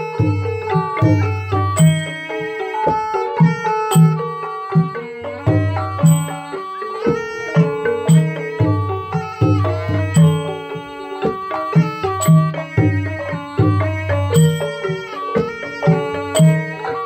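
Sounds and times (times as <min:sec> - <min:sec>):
struck tuned percussion melody: 0:00.0 - 0:17.0.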